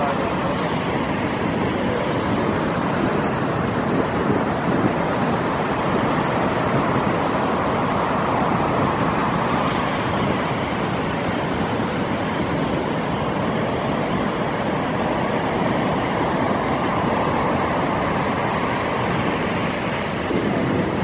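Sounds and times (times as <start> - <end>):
ocean surf crashing on rocks: 0.0 - 21.0.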